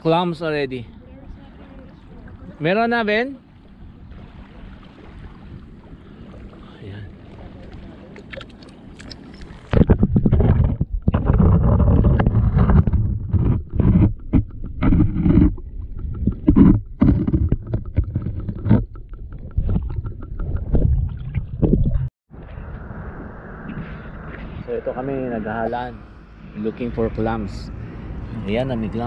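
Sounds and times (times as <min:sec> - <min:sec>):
muffled water sloshing underwater: 0:00.8 - 0:29.0.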